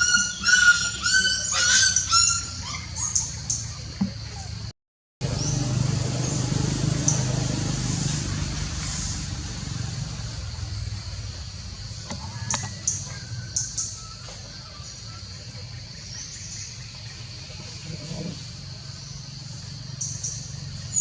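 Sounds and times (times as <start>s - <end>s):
low engine-like hum: 0.5s - 21.0s.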